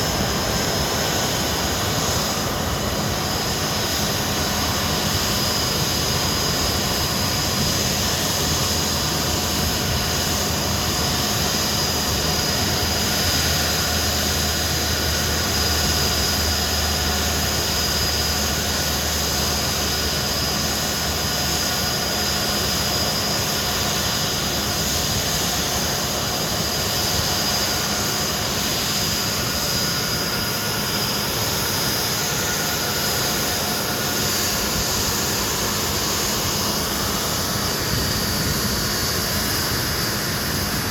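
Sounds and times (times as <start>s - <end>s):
jet engines rushing and whining: 0.0s - 40.9s.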